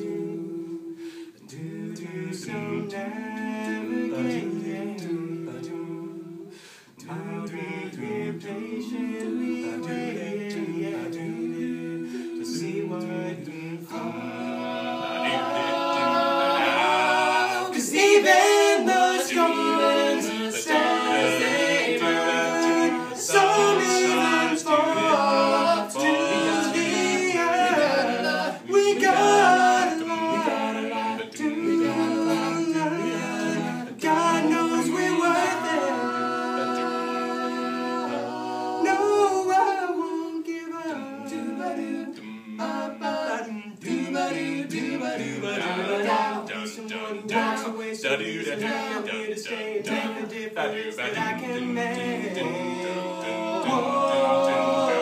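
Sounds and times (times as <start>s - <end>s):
male group singing in harmony: 0.0s - 55.0s.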